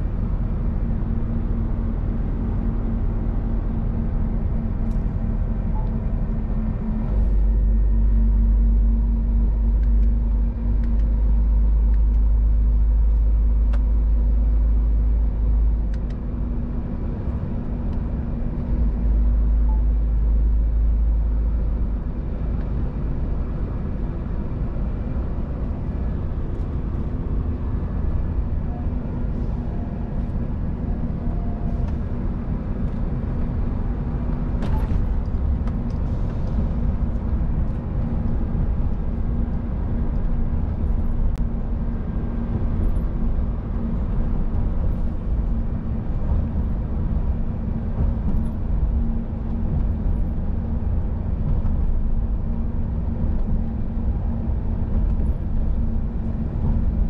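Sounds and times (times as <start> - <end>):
road and tyre rumble: 0.0 - 57.0
truck engine drone: 0.0 - 57.0.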